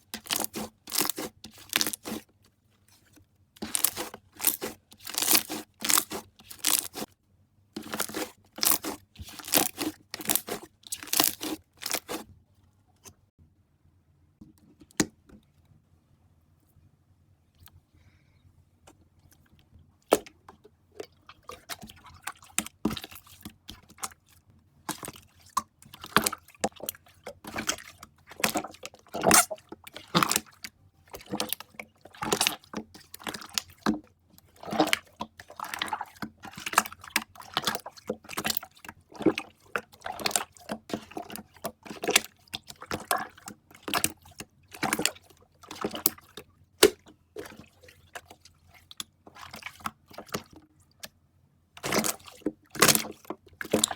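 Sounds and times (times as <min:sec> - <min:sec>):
slime squishing with wet pops: 0:00.0 - 0:02.4, 0:03.0 - 0:07.1, 0:07.8 - 0:12.3, 0:21.0 - 0:51.2, 0:51.8 - 0:53.9.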